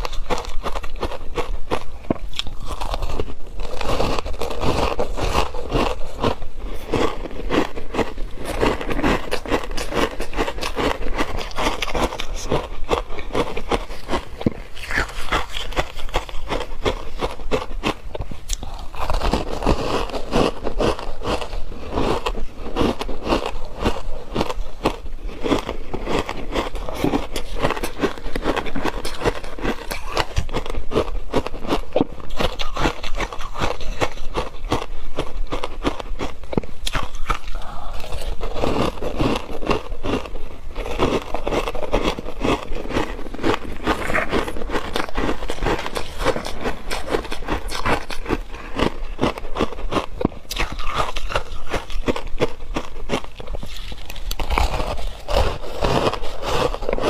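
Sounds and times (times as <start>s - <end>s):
ice being crunched and chewed: 0.0s - 57.0s.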